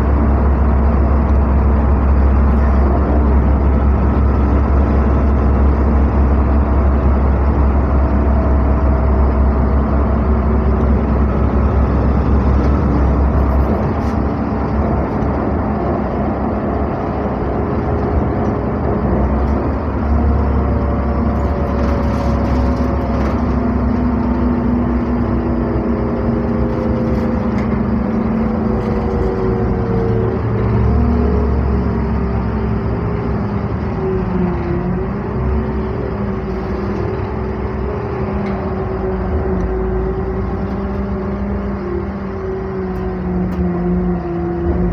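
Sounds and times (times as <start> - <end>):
bus engine droning: 0.0 - 44.9.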